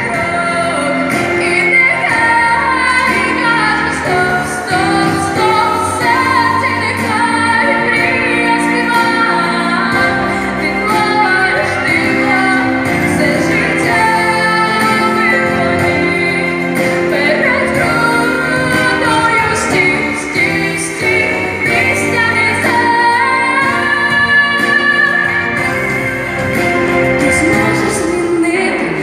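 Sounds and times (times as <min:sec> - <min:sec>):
instrumental accompaniment with beat: 0:00.0 - 0:29.0
woman singing into microphone: 0:00.0 - 0:29.0.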